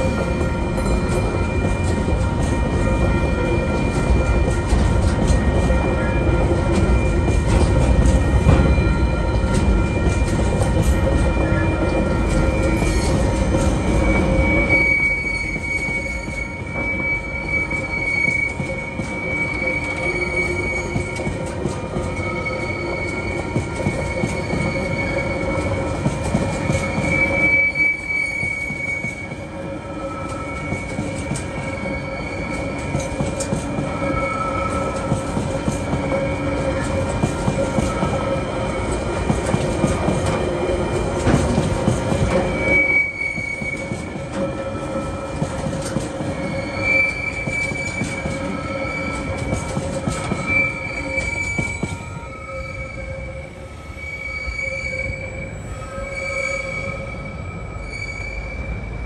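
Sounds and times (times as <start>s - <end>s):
freight train rumbling: 0.0s - 59.0s
wheels squealing on rails: 0.0s - 59.0s.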